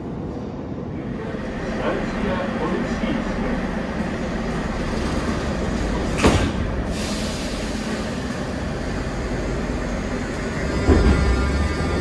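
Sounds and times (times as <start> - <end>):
metro train running: 0.0 - 12.0.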